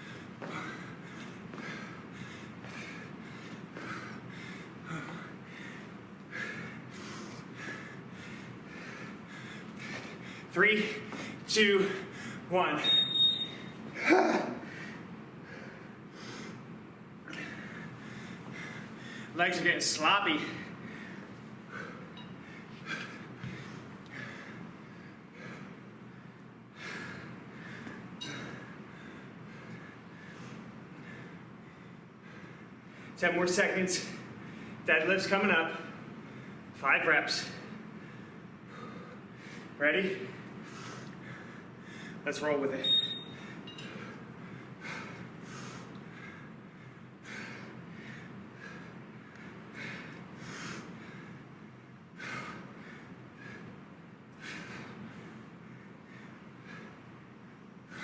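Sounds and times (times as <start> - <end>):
man breathing hard: 0.0 - 12.5, 13.5 - 19.4, 20.2 - 33.2, 37.6 - 42.2, 43.2 - 58.0
steady low hum: 0.0 - 58.0.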